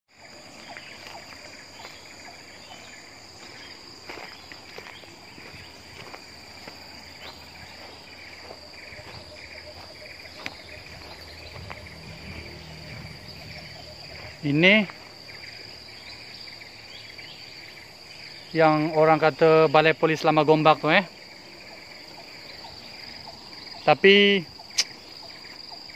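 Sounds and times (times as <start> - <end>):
high-pitched insect drone: 0.1 - 25.9.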